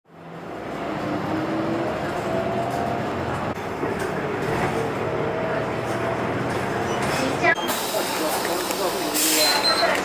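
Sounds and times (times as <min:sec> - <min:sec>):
bus engine and road rumble: 0:00.1 - 0:10.0.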